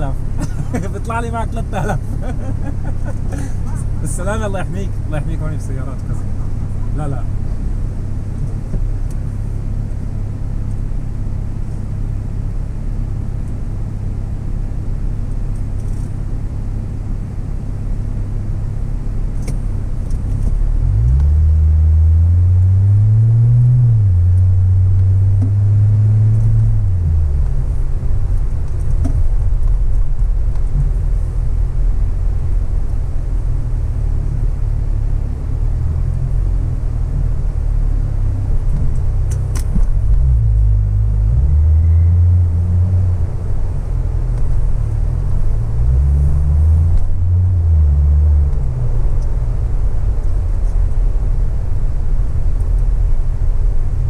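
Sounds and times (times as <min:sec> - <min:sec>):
car engine: 0:00.0 - 0:54.0
road rumble: 0:00.0 - 0:54.0.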